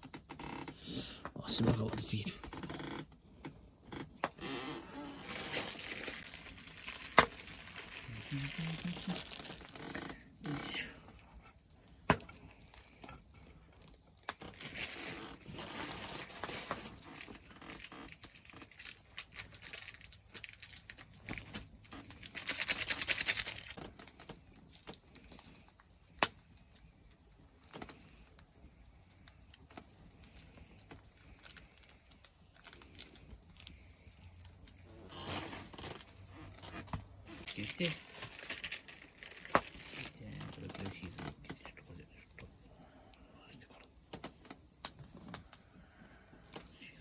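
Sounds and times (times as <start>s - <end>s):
rustling and crinkling handling: 1.4s - 42.6s, 43.5s - 47.0s.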